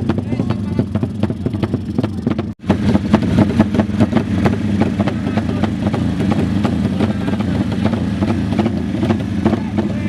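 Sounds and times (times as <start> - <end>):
racing motorcycle engines: 0.0 - 10.0.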